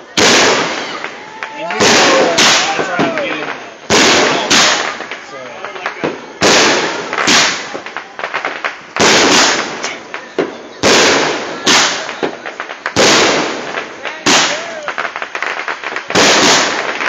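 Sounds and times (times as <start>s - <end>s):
crackling pops: 0.0s - 17.0s
fireworks bangs: 0.0s - 17.0s.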